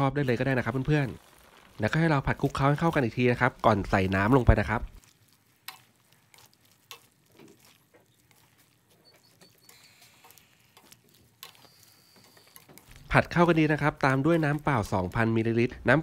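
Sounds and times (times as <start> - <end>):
spatula scraping in a wok: 0.1 - 15.6.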